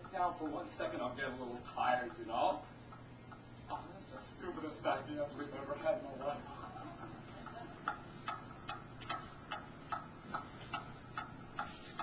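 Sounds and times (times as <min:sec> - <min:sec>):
pendulum clock ticking: 0:00.0 - 0:12.0.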